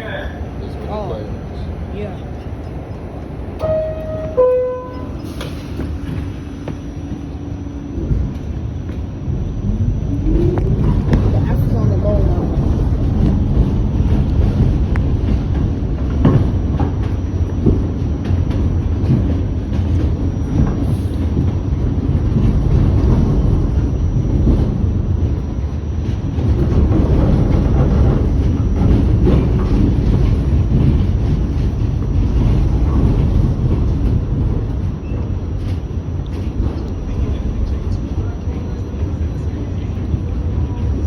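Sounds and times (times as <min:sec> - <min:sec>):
subway train rumbling: 0:00.0 - 0:41.0.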